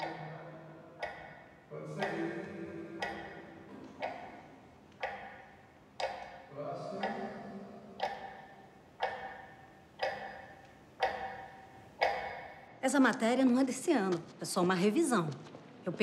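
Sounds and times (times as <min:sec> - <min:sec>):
clock ticking: 0:00.0 - 0:15.6.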